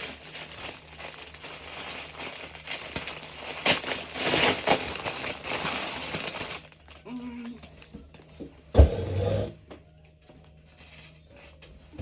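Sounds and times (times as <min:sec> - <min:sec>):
fabric and packaging rustling: 0:00.0 - 0:12.0.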